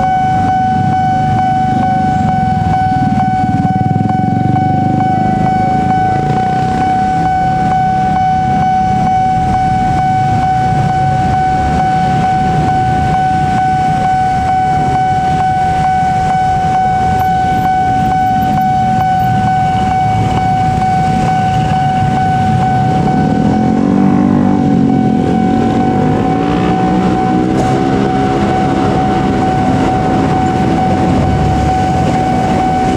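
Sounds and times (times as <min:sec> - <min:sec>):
motorcycle engines idling: 0:00.0 - 0:15.0, 0:15.7 - 0:32.9
level-crossing alarm ringing: 0:00.0 - 0:32.9.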